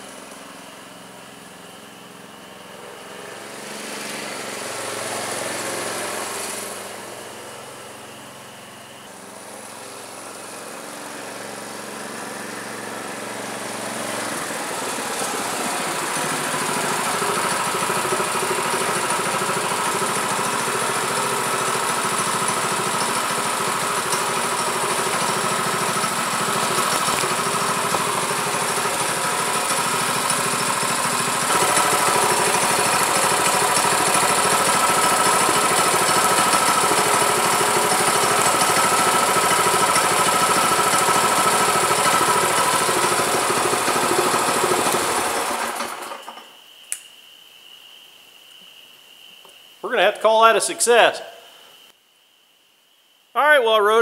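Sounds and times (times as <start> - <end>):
small engine idling: 0.0 - 46.6.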